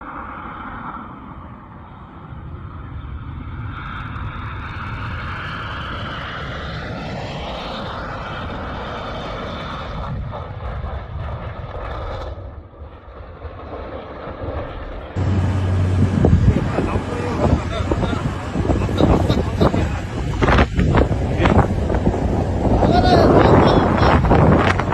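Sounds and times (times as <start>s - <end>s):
aircraft engines rumble and whine: 0.0s - 24.9s
gusty noise: 0.0s - 24.9s.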